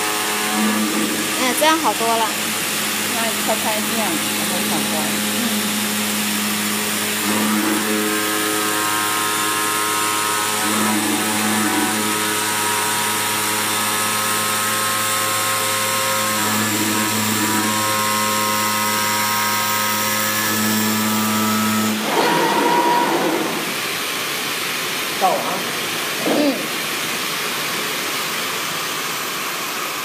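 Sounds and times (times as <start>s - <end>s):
motor whines: 0.0s - 24.2s
machine hum and hiss: 0.0s - 30.0s.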